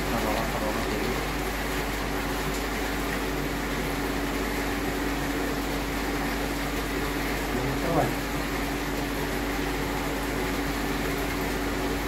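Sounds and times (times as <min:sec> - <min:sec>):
machinery humming and hissing: 0:00.0 - 0:12.0.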